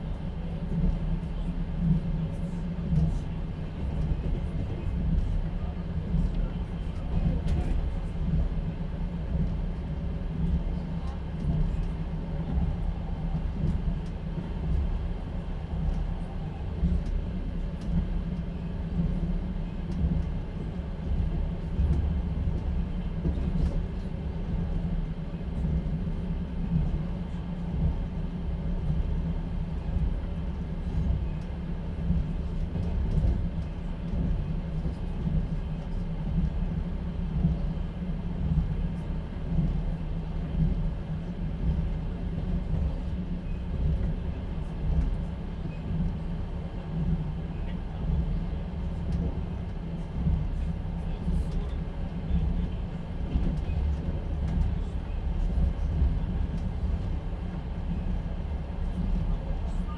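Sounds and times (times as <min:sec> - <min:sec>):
train running gear rumble: 0:00.0 - 0:59.9.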